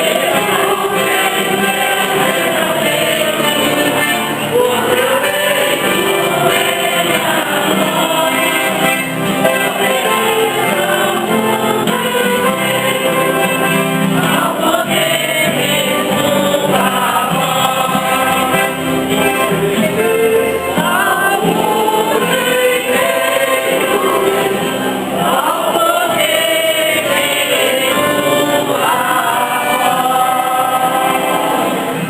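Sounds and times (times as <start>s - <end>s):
choir singing a hymn: 0.0s - 32.0s.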